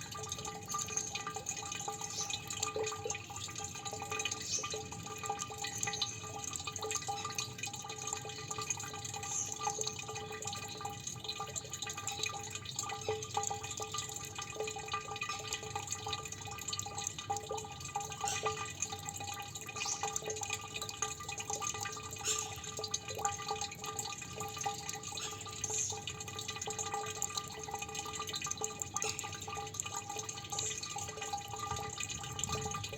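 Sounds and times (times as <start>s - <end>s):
water drops plinking: 0.0s - 32.9s.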